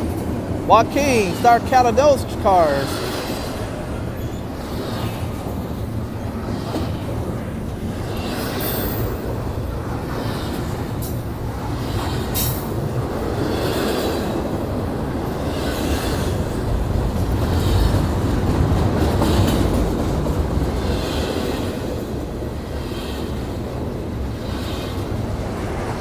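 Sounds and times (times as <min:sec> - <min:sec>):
train wheels rumbling on rails: 0:01.3 - 0:26.0.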